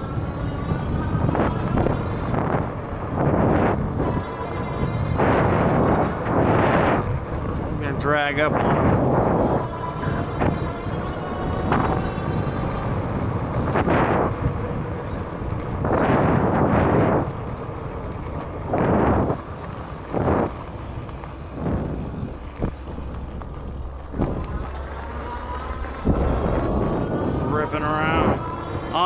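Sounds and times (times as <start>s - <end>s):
electric bike motor rumble: 0.0s - 29.0s
wind buffeting microphone: 0.0s - 29.0s.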